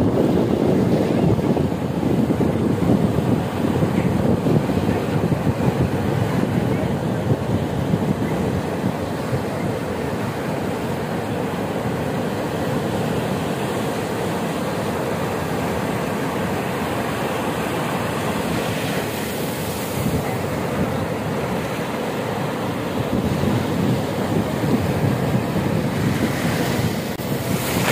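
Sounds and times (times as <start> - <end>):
waves breaking on beach: 0.0 - 27.9.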